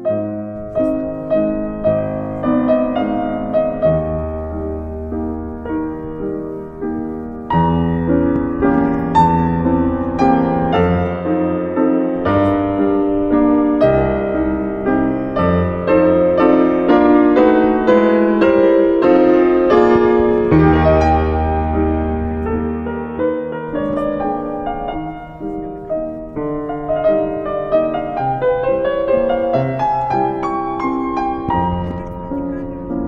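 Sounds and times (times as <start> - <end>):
slow piano melody: 0.0 - 33.0.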